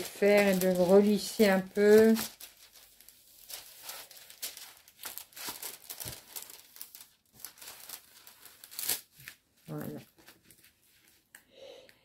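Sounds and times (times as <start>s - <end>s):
plastic film crinkling: 0.0s - 11.3s.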